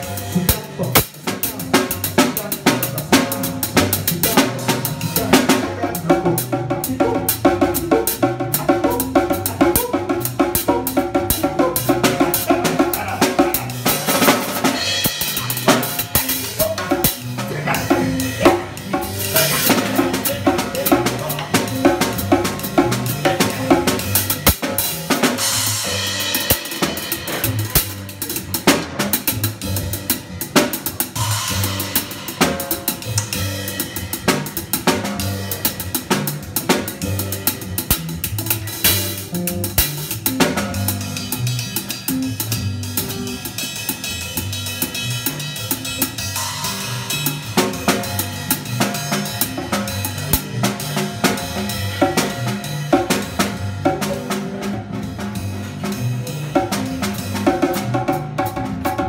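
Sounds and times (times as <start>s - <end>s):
drum kit groove: 0.0s - 59.0s.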